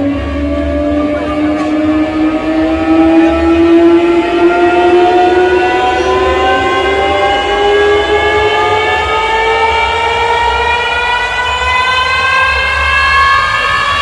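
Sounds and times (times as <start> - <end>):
siren-like synth tone: 0.0 - 14.0.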